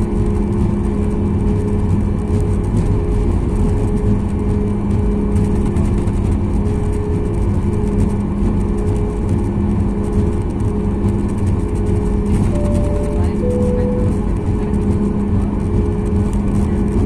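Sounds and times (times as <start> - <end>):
jet engines low rumble: 0.0 - 17.0.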